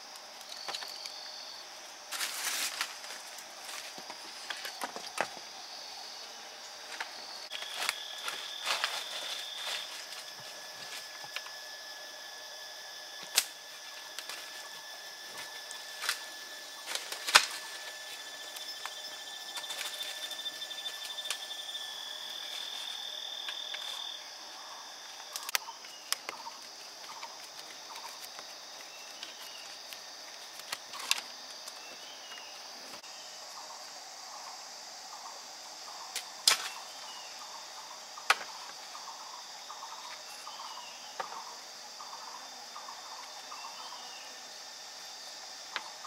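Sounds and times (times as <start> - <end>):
background insect noise: 0.0 - 46.0
insects chirring: 0.0 - 46.0.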